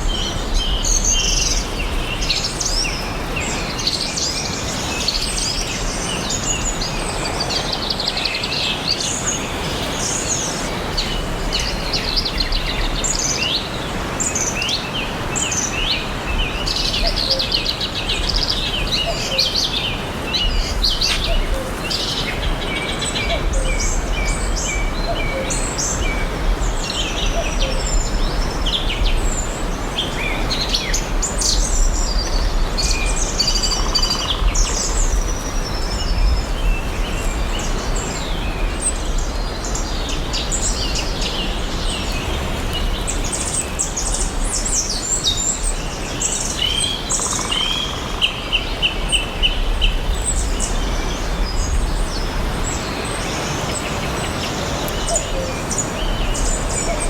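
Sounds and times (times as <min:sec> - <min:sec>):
forest ambience hiss: 0:00.0 - 0:57.0
songbirds chirping and singing: 0:00.0 - 0:57.0.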